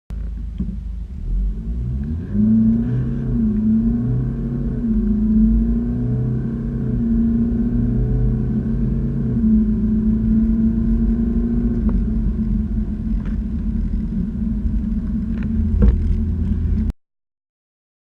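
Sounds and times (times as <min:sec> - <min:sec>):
diesel car engine running: 0:00.1 - 0:16.9
road noise: 0:00.1 - 0:17.0.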